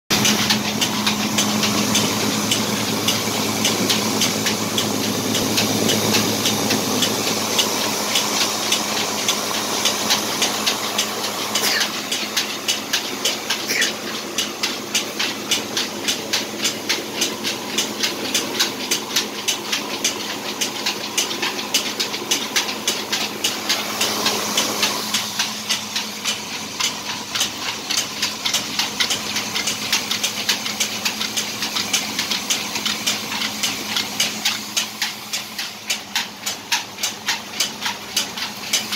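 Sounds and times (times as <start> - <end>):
grain mill humming and clattering: 0.1 - 38.9.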